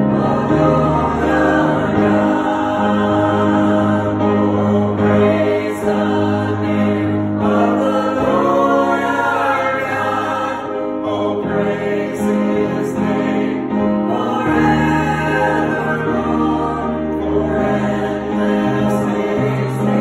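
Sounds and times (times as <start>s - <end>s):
choir singing a hymn: 0.0s - 20.0s.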